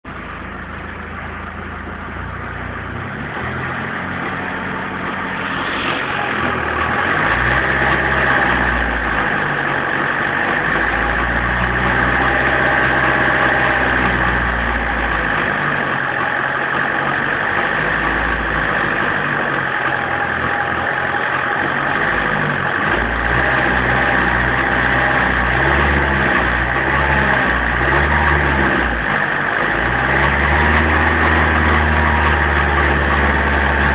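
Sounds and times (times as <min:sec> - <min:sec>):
turbodiesel engine accelerating: 0:00.0 - 0:33.9.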